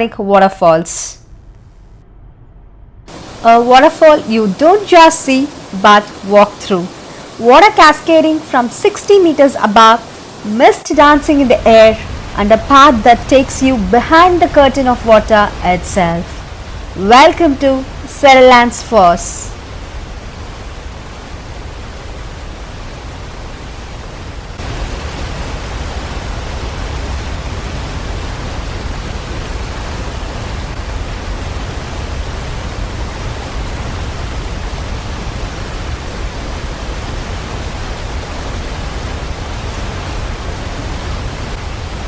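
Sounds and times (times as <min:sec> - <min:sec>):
waterfall roaring: 0:03.1 - 0:42.0.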